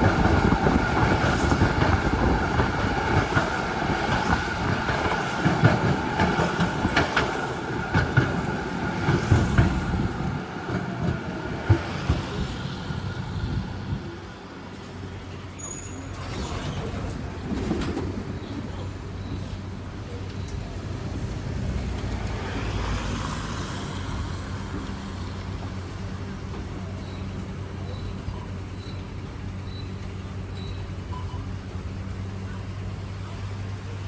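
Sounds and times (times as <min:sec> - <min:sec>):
tram running noise: 0:00.0 - 0:34.0
tram wheels clattering over rail joints: 0:00.0 - 0:34.0.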